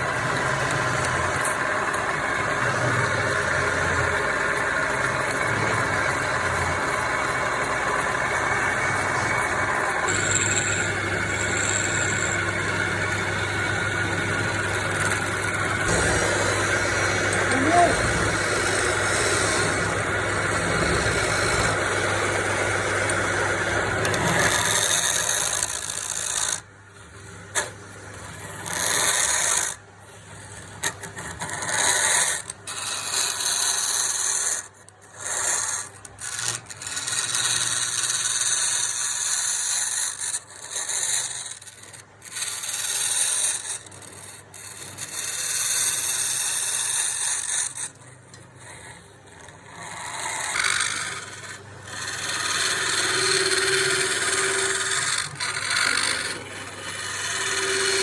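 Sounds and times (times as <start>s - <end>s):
wood scraping with abrasive tool: 0.0s - 26.7s, 27.5s - 58.0s.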